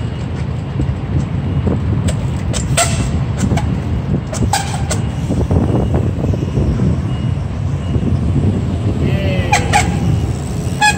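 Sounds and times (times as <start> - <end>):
city traffic rumble: 0.0 - 10.9.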